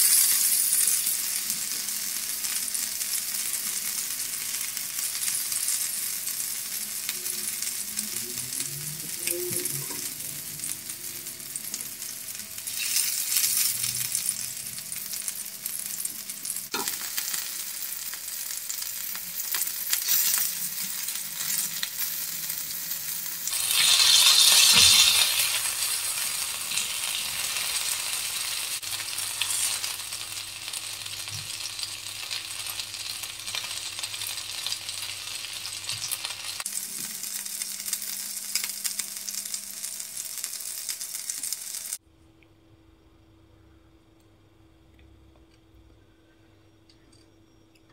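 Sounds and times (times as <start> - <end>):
fish sizzling in hot oil: 0.0 - 42.0.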